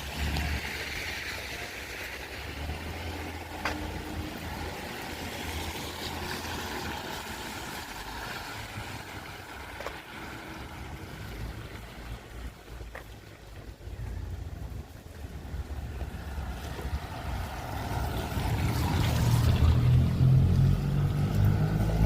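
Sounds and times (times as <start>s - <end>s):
wet traffic: 0.0s - 22.0s.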